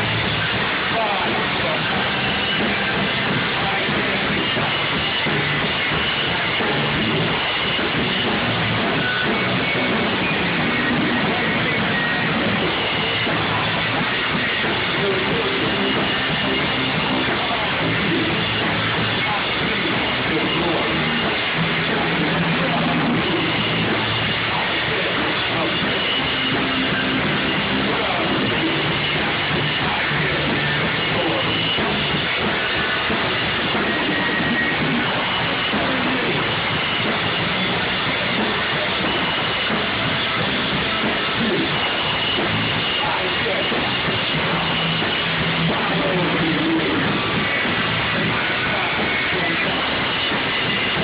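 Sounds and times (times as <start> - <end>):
bass line: 0.0 - 51.0
drum kit: 0.0 - 51.0
rock band playing: 0.0 - 51.0.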